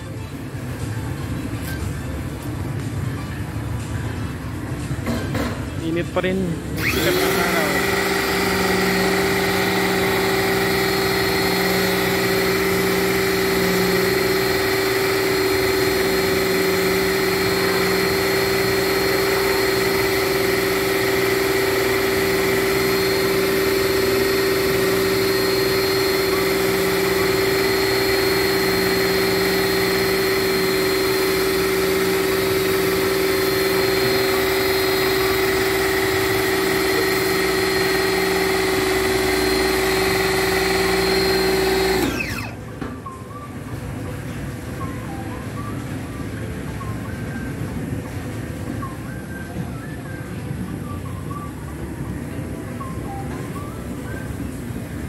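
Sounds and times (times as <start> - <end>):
motor humming with high whine: 6.0 - 55.0.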